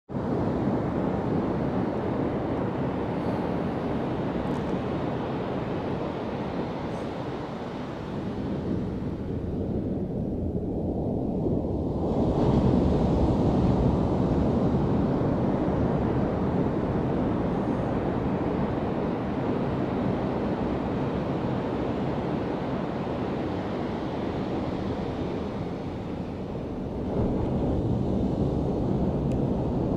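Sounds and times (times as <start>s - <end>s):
wind buffeting microphone: 0.1s - 29.9s
waves crashing on beach: 0.2s - 10.2s, 11.7s - 29.9s.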